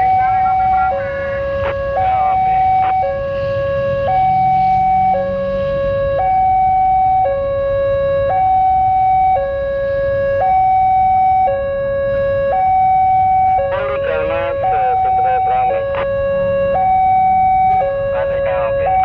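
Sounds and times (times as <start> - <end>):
level crossing two-tone alarm: 0.0 - 19.0.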